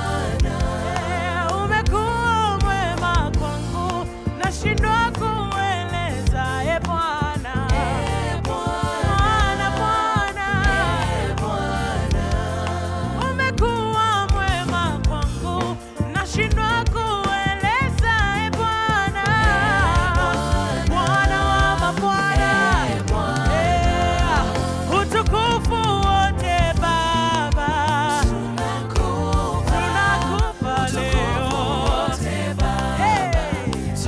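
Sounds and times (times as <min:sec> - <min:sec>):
live band with bass and drums: 0:00.0 - 0:34.0
voices singing with vibrato: 0:00.0 - 0:34.0.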